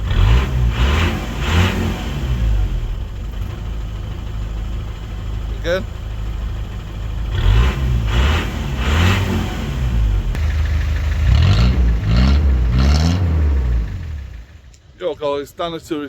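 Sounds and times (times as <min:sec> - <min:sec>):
vehicle engine revving: 0:00.0 - 0:14.8.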